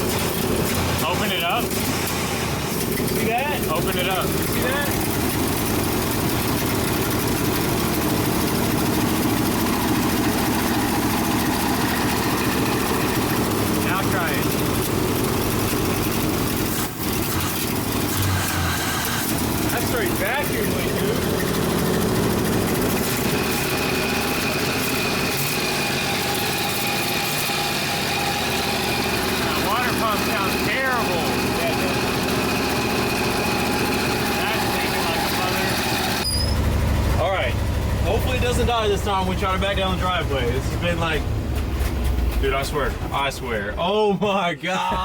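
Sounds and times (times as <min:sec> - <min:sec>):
truck engine idling: 0:00.0 - 0:43.8.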